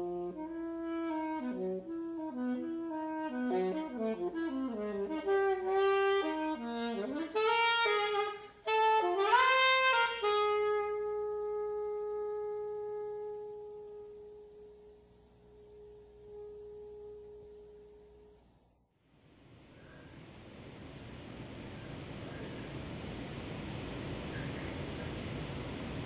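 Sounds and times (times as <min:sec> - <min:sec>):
alto saxophone free jazz runs: 0:00.0 - 0:18.7, 0:19.6 - 0:26.0.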